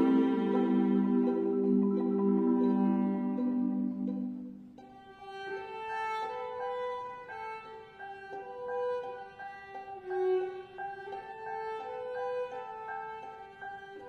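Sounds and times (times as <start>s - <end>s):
violin and cello bowed notes: 0.0s - 14.0s.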